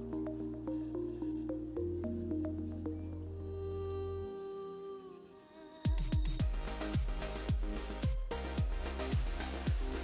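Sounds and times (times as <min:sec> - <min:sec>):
electronic music: 0:00.0 - 0:04.6, 0:05.9 - 0:10.0.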